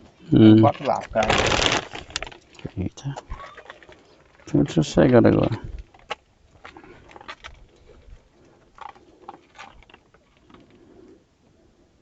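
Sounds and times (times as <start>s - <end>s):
animal crunching dry kibble: 0.4s - 11.2s.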